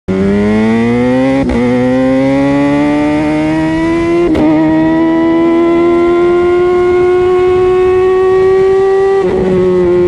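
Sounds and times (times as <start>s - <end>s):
motorcycle engine accelerating: 0.1s - 10.0s.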